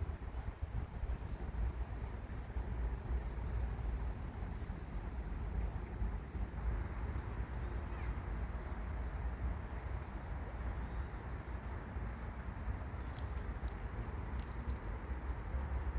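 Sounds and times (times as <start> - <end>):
wind against microphone: 0.0 - 15.9.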